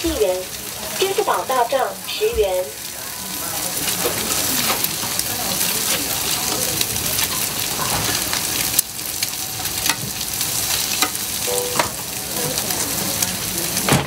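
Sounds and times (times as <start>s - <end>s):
food sizzling in hot oil: 0.0s - 13.9s.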